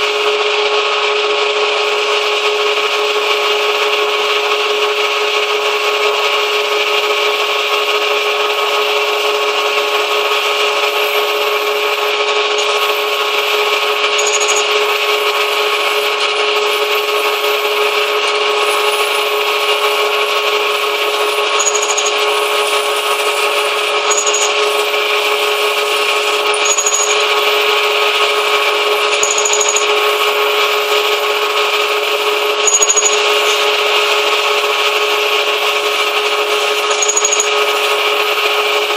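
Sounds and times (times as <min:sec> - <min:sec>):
metal lathe whining: 0:00.3 - 0:38.9.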